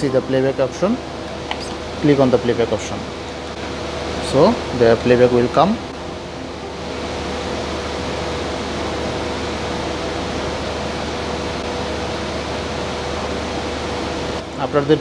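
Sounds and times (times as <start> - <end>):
low hum: 0.0 - 14.6
ventilation hiss: 0.0 - 15.0.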